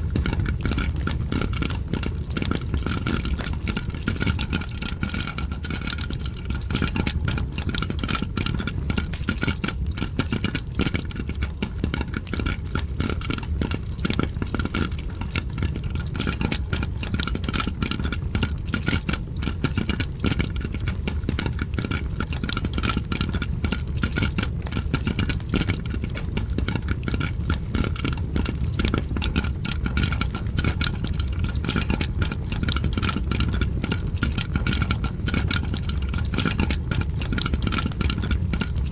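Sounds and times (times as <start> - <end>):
crackling fire: 0.0 - 38.9
popcorn popping: 0.0 - 38.9.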